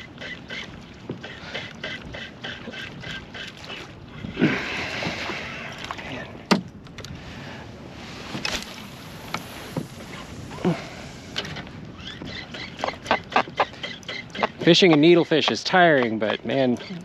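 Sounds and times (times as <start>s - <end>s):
waves lapping against canoe hull: 0.0s - 17.0s.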